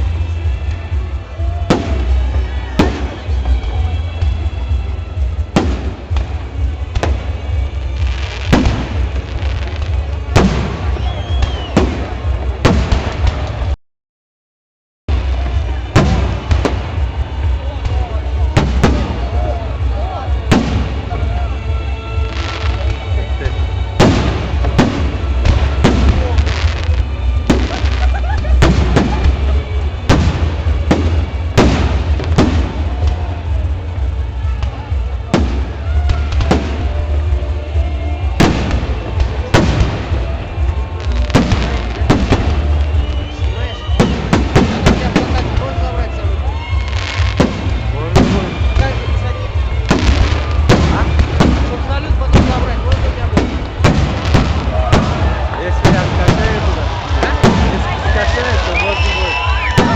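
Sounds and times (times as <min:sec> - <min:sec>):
fireworks bangs: 0:00.0 - 0:13.8, 0:15.1 - 0:59.9.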